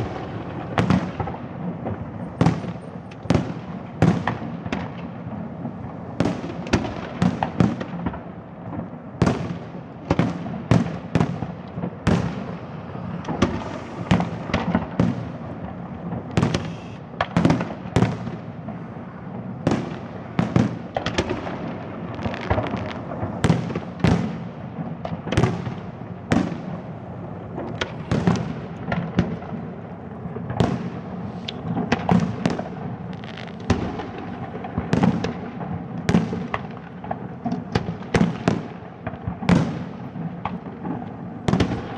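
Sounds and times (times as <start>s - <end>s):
fireworks crackle and rumble: 0.0s - 41.9s.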